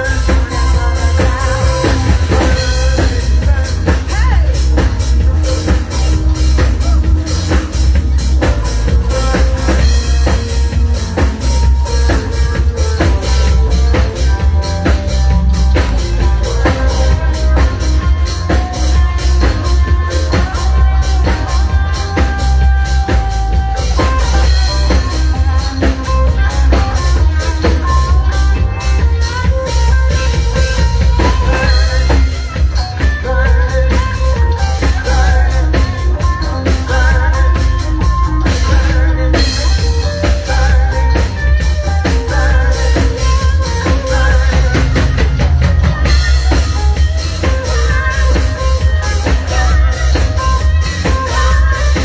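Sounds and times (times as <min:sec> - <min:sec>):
drum kit beat: 0:00.0 - 0:52.0
guitar: 0:00.0 - 0:52.0
heavy bass: 0:00.0 - 0:52.0.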